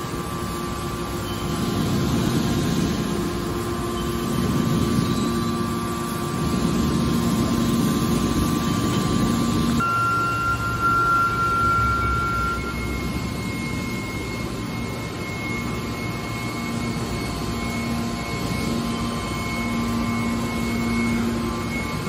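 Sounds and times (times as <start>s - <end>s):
faint steady whines: 0.0s - 22.0s
hydraulic pump motor hum: 0.0s - 22.0s
low hum: 0.8s - 22.0s.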